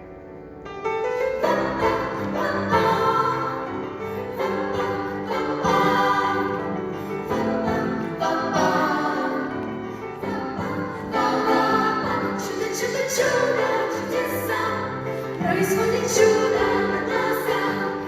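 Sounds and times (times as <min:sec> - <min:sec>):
piano accompaniment: 0:00.0 - 0:18.0
vocal ensemble singing: 0:01.2 - 0:18.0.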